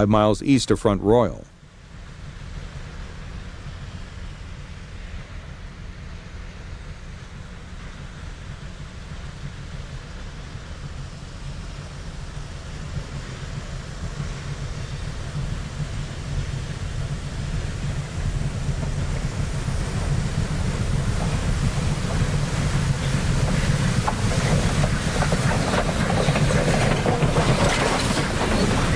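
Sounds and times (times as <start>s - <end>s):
steam locomotive train rumbling: 0.0s - 28.9s.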